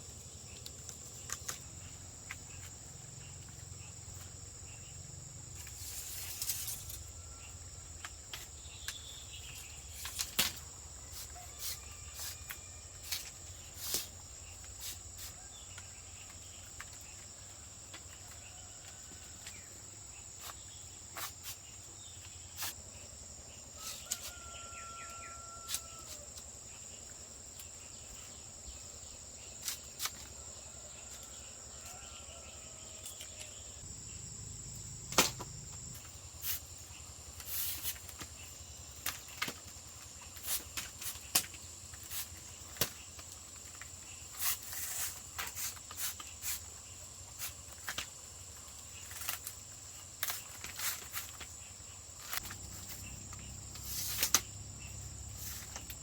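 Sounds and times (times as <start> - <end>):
crickets droning: 0.0 - 56.0.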